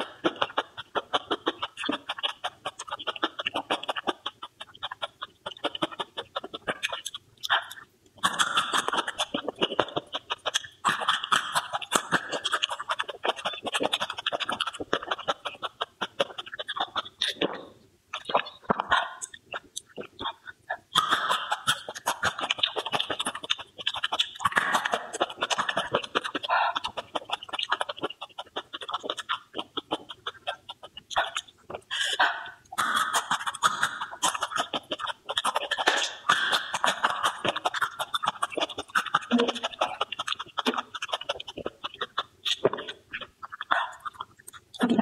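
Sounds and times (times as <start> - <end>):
person chewing: 0.0 - 44.9.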